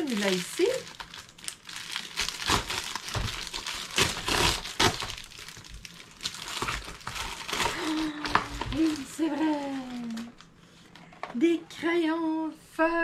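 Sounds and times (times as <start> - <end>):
plastic mailer crinkling and tearing: 0.0 - 10.5.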